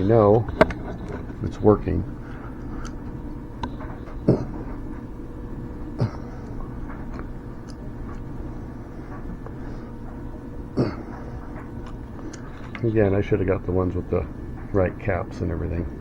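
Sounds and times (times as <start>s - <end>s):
pump humming: 0.0s - 16.0s.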